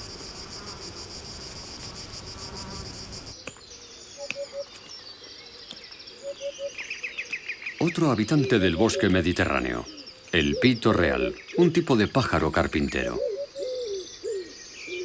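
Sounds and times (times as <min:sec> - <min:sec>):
insects chirring: 0:00.0 - 0:15.0
bird calls: 0:02.7 - 0:15.0.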